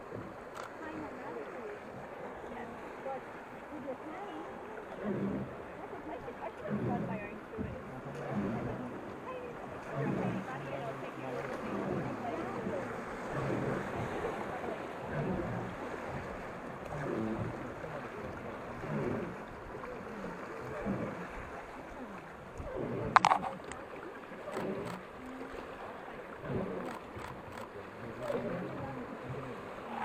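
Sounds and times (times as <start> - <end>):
people talking quietly: 0.0 - 30.0.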